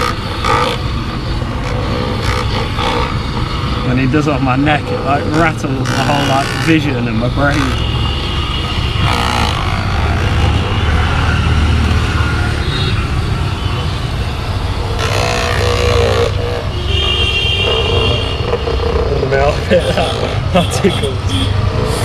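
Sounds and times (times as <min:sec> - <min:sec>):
electric massager buzzing: 0:00.0 - 0:13.3, 0:14.2 - 0:19.1.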